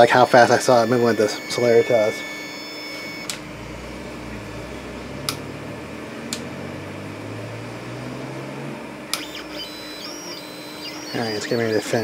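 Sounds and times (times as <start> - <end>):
stepper motors humming and whirring: 0.0 - 12.0.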